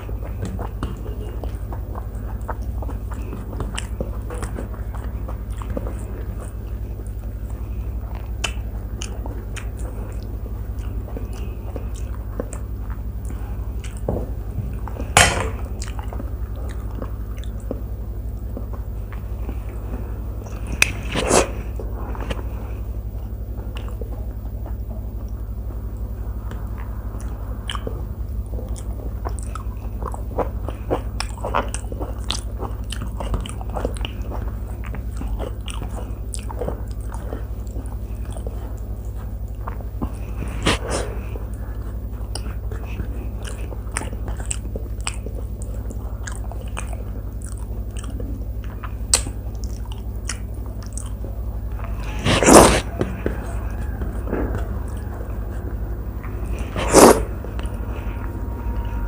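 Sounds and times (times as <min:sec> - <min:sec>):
close chewing with mouth clicks: 0:00.0 - 0:59.0
low hum: 0:00.0 - 0:59.0.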